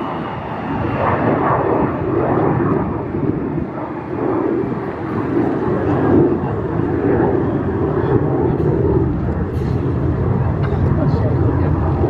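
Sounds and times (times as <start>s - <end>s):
fighter jet engine rumble: 0.0s - 12.0s.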